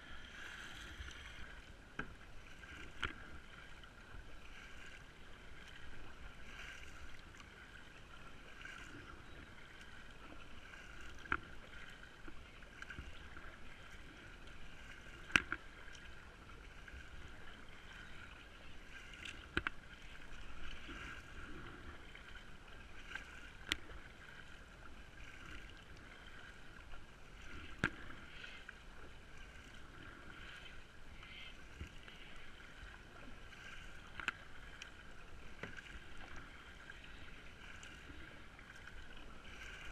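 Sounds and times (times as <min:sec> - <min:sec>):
faint water noise: 0:00.0 - 0:39.9.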